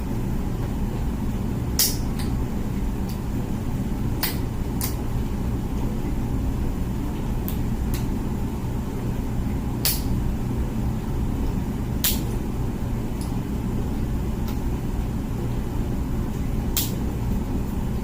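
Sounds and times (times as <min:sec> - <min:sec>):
dishwasher running: 0:00.0 - 0:18.0.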